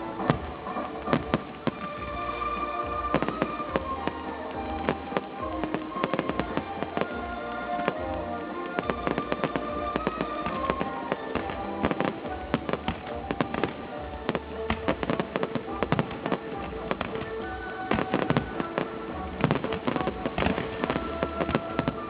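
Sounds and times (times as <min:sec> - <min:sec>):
fireworks bangs and crackles: 0:00.0 - 0:22.0
music with long held notes: 0:00.0 - 0:22.0.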